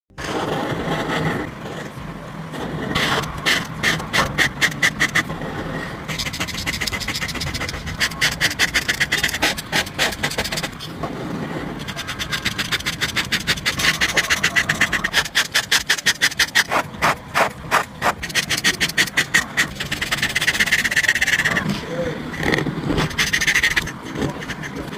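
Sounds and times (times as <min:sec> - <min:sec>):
marker scratching on paper: 0:02.6 - 0:24.9.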